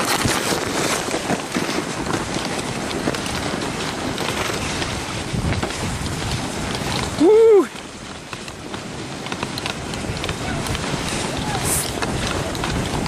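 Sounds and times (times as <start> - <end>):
sliding on snow hiss: 0.0 - 13.0
wind over microphone: 0.0 - 13.0.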